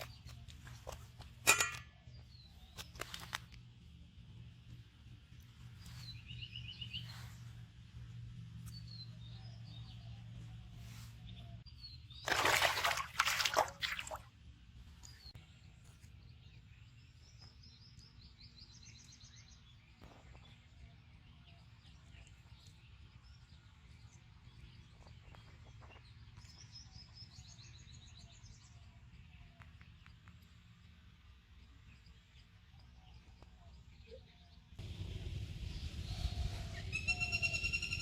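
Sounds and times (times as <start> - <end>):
low outdoor rumble: 0.0 - 12.2, 14.2 - 38.0
small birds chirping: 2.0 - 13.4, 14.8 - 38.0.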